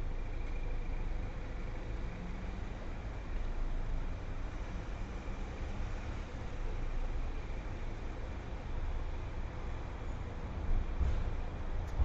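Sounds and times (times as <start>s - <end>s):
passing traffic rumble: 0.0s - 12.0s.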